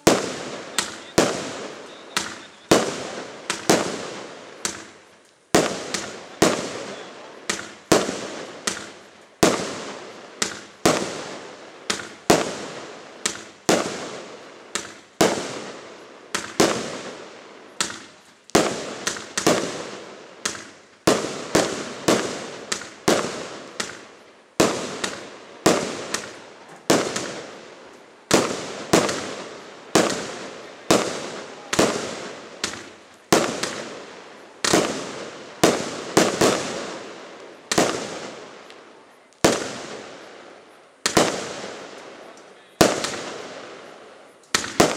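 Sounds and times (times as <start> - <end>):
firework bangs: 0.0 - 44.9.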